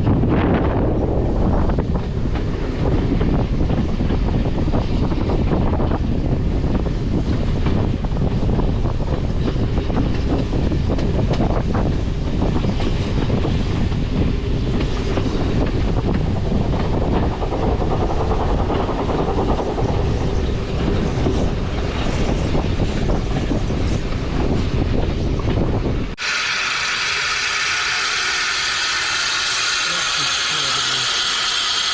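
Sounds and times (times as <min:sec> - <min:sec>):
wind buffeting microphone: 0:00.0 - 0:27.7
train rumbling: 0:00.0 - 0:31.9.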